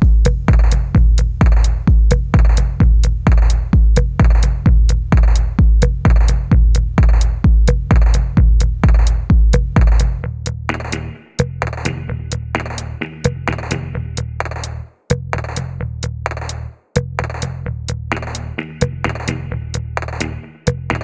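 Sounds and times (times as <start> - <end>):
electronic music: 0.0 - 10.1, 10.7 - 14.8, 18.1 - 21.0
heavy kick drum: 0.0 - 21.0
hi-hat clicks: 0.2 - 14.9, 15.5 - 21.0.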